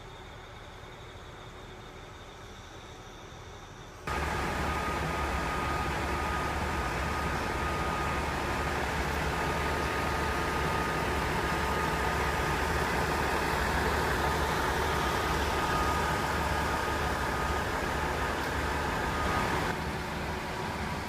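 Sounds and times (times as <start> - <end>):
thin steady whine: 0.0 - 21.0
train equipment humming: 0.0 - 21.0.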